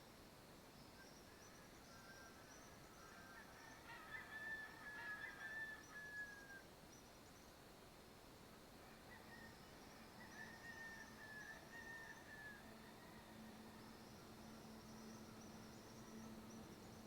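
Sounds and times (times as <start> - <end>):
low hiss: 0.0 - 3.6, 6.3 - 17.0.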